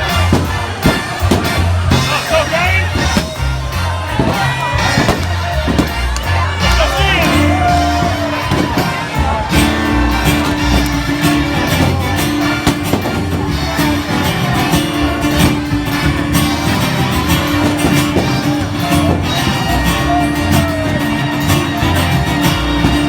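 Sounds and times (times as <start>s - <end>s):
country band playing instrumental: 0.0s - 23.0s.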